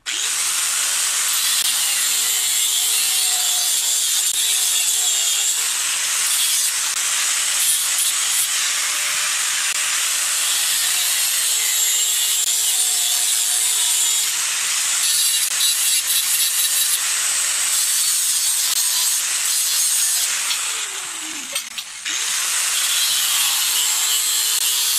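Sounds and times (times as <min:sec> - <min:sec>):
angle grinder cutting metal: 0:00.0 - 0:24.9.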